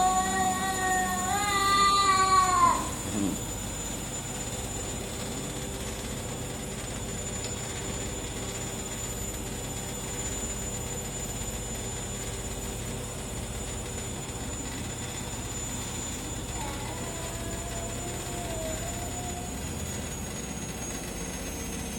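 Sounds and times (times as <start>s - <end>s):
washing machine humming: 0.0s - 21.9s.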